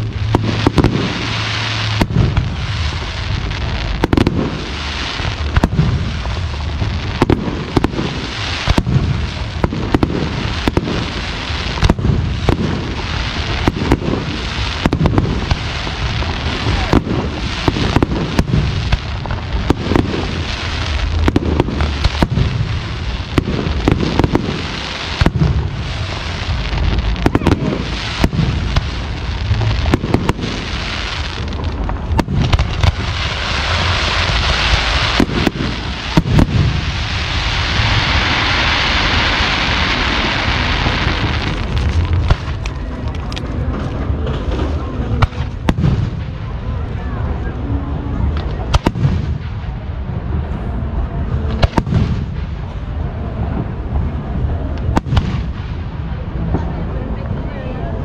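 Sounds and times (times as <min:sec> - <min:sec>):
fireworks bangs: 0:00.0 - 0:57.6
fireworks hiss and rumble: 0:00.0 - 0:58.0.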